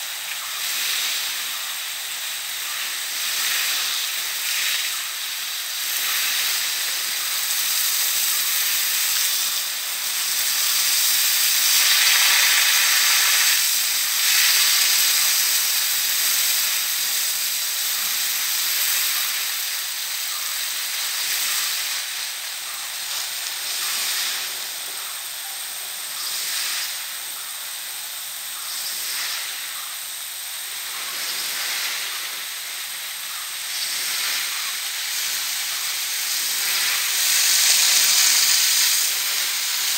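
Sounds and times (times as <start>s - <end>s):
water jet sprinkler hissing: 0.0s - 39.9s.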